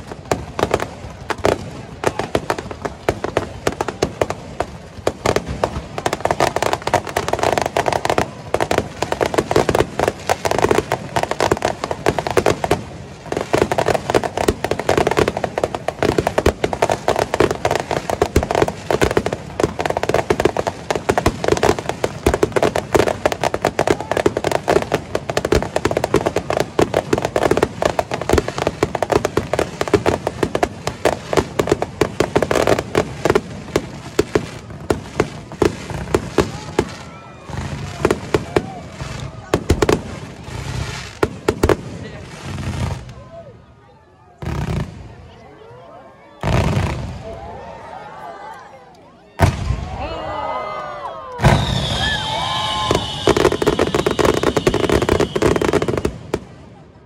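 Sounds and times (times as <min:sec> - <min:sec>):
fireworks bursts and crackling: 0:00.0 - 0:48.7, 0:49.4 - 0:57.0.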